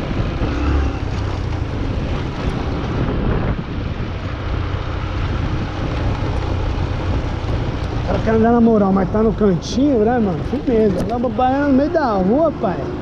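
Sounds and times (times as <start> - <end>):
wind on microphone: 0.0 - 11.4
vehicle and road rumble: 0.0 - 13.0.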